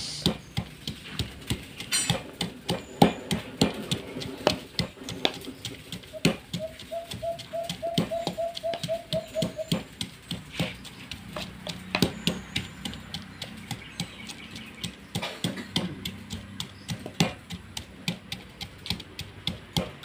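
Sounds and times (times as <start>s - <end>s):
wooden pestle pounding in mortar: 0.0s - 20.0s.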